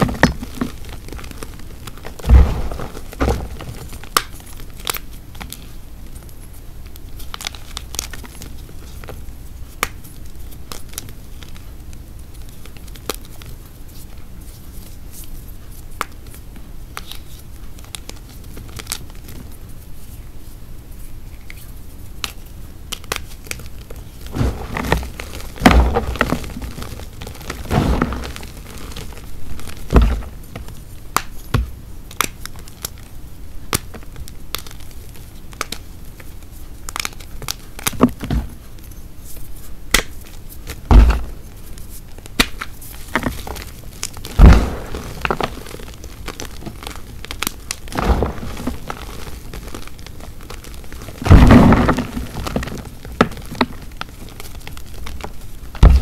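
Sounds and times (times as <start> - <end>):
chalk crushed and crackling: 0.0 - 11.7, 21.3 - 33.1, 33.7 - 56.0.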